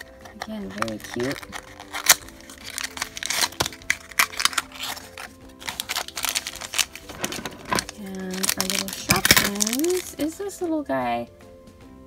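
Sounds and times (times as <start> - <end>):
plastic bag crinkling: 0.0 - 10.4
soft background music: 0.0 - 12.0.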